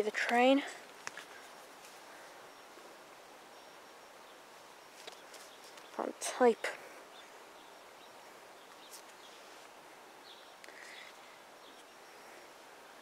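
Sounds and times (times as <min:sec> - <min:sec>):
faint bird chirps: 0:00.6 - 0:12.7.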